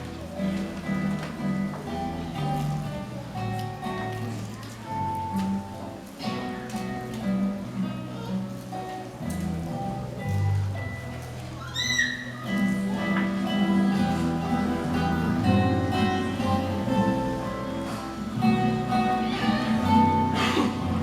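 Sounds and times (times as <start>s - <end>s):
acoustic guitars strummed: 0.0s - 11.6s, 12.2s - 21.0s.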